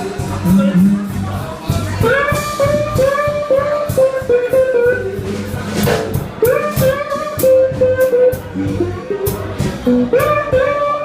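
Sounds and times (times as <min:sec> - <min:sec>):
electric guitar lead: 0:00.0 - 0:01.2, 0:02.0 - 0:11.0
bass guitar line: 0:00.0 - 0:11.0
drums with cymbal hits: 0:00.0 - 0:11.0.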